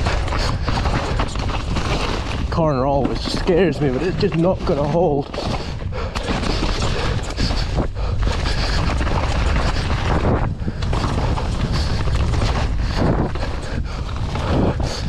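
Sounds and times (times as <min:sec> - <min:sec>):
bike tyre and frame rattle: 0:00.0 - 0:15.0
wind buffeting microphone: 0:00.0 - 0:15.0.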